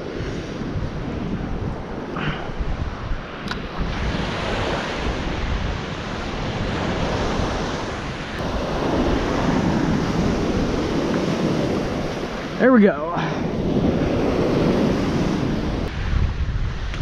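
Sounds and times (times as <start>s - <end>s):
ocean surf washing ashore: 0.0s - 17.0s
wind buffeting microphone: 0.0s - 17.0s.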